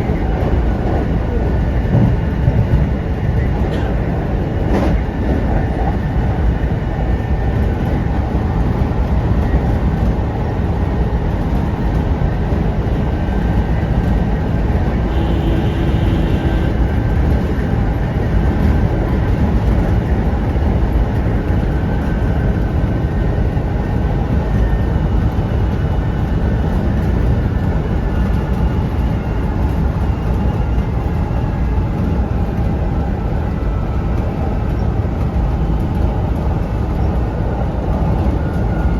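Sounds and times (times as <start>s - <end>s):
electric train running: 0.0s - 38.9s.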